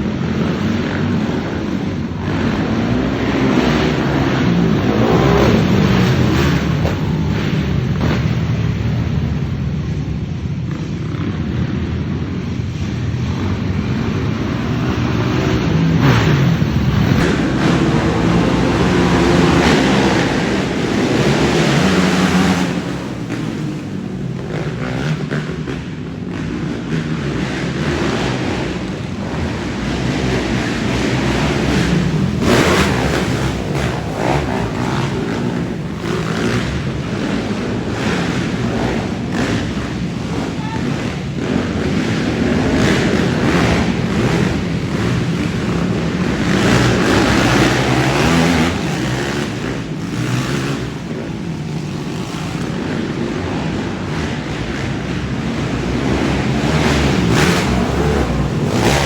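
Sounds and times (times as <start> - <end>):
quad engines revving: 0.0 - 59.0.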